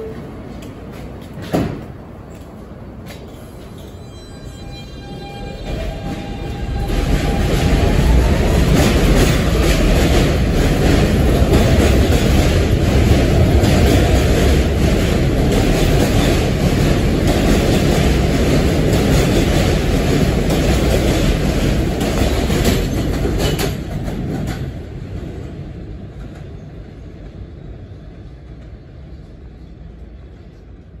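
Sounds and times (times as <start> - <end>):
subway train wheels clattering: 0.0 - 31.0.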